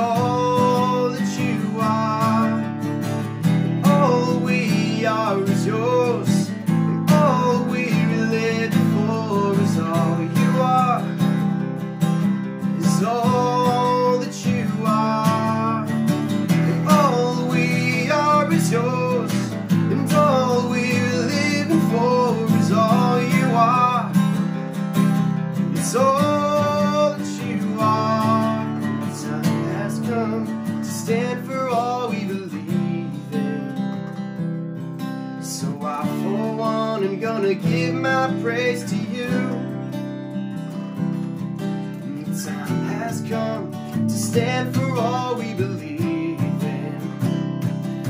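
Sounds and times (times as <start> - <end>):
acoustic guitars strumming: 0.0 - 48.0
gliding guitar melody: 0.0 - 48.0.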